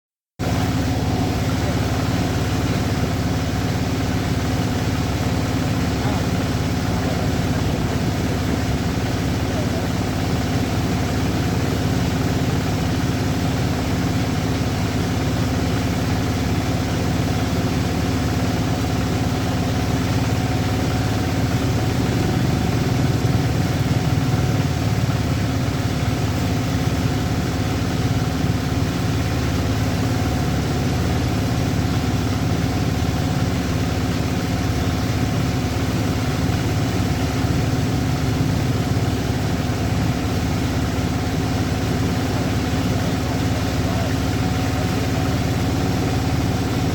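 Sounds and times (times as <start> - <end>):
engine running steadily: 0.4 - 46.9.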